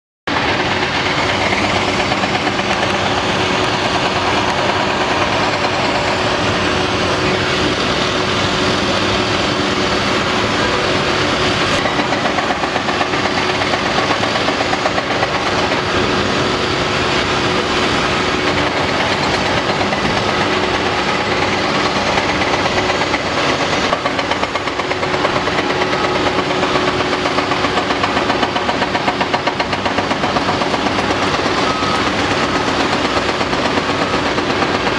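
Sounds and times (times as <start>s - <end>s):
excavator humming: 0.3s - 34.9s
hydraulic hammer pounding: 0.3s - 34.9s.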